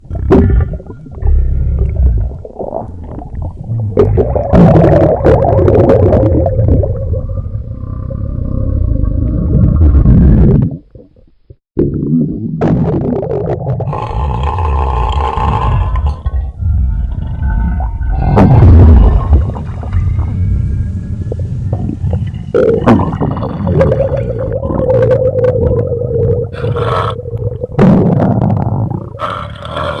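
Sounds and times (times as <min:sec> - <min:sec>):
stomach growling and gurgling: 0:00.0 - 0:20.2, 0:21.7 - 0:30.0.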